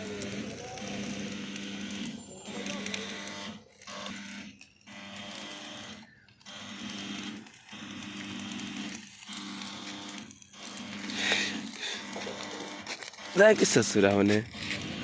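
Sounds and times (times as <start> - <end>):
arc welder buzzing and crackling: 0.0 - 15.0.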